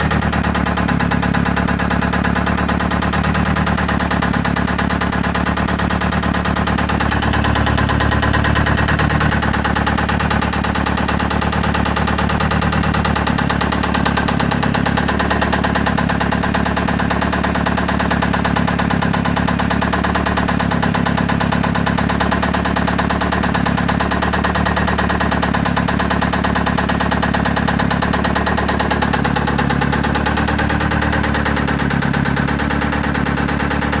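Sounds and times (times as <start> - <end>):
engine idling with even knock: 0.0 - 34.0.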